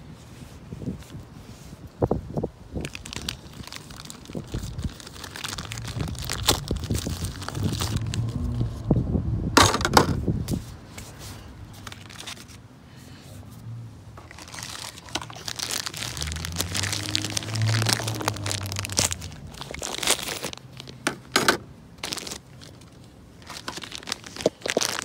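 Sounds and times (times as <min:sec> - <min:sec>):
crinkling handling noise: 0:02.8 - 0:08.9, 0:09.6 - 0:13.6, 0:14.2 - 0:25.0.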